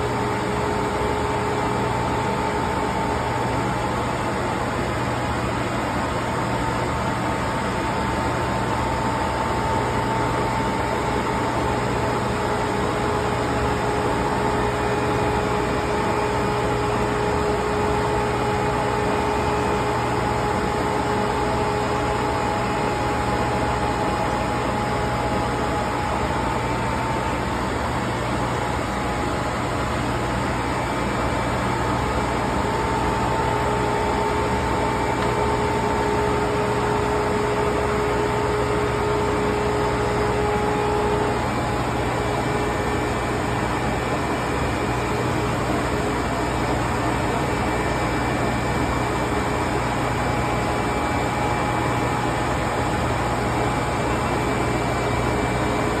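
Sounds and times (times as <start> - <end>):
industrial machinery drone: 0.0 - 56.0.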